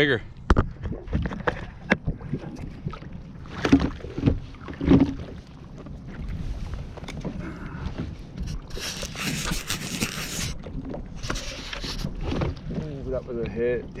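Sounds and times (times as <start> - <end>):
knocks and rustles on kayak: 0.4 - 14.0
water sloshing: 0.4 - 14.0.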